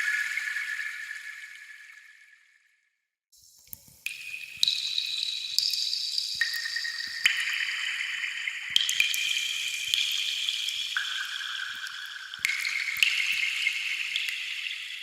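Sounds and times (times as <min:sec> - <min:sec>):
water drops with ringing tones: 0:00.0 - 0:02.5, 0:03.6 - 0:15.0.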